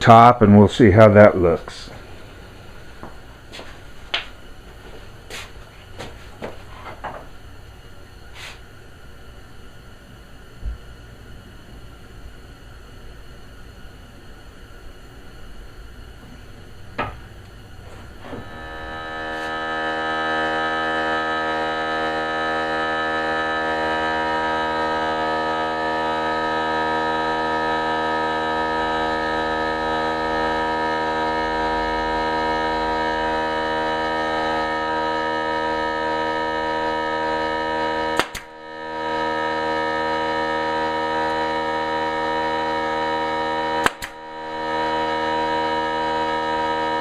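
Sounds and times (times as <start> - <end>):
machine whining and humming: 0.0 - 47.0.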